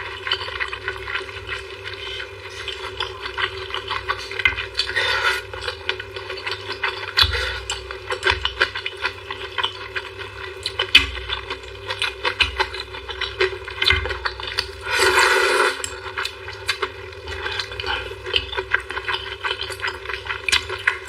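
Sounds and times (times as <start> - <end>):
chewing with crunches: 0.0 - 21.0.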